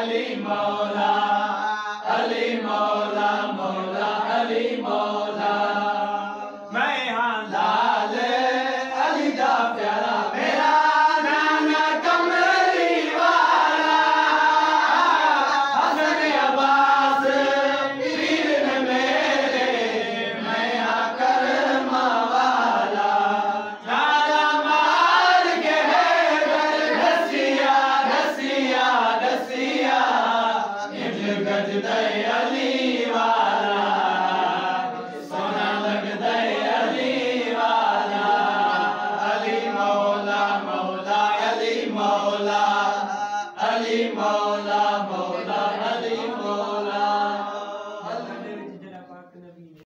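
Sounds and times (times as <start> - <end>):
men chanting devotional poem: 0.0 - 49.2.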